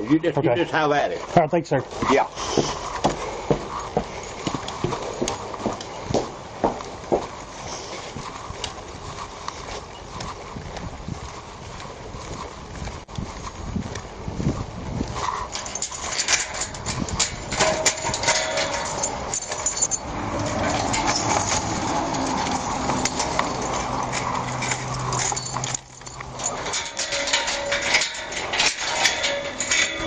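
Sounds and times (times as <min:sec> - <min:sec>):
footsteps: 0:00.0 - 0:30.0
clothing and gear rustling: 0:00.7 - 0:30.0.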